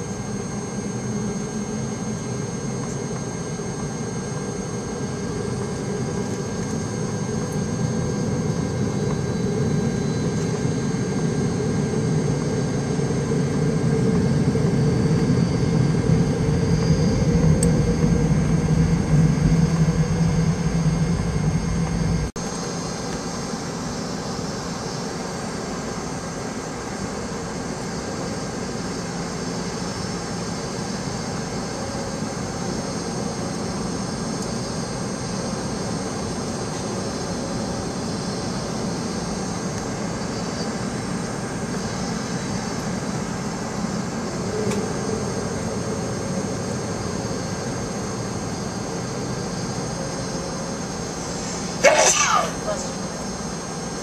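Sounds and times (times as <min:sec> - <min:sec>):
airliner engine rumble: 0:00.0 - 0:54.0
high engine whine: 0:00.0 - 0:54.0.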